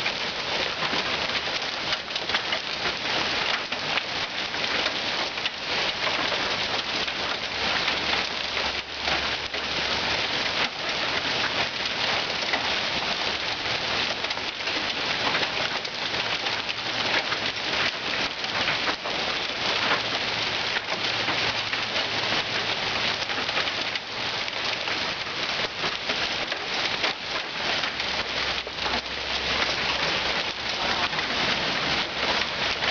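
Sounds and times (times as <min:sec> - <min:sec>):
hail and rain pelting: 0:00.0 - 0:32.9.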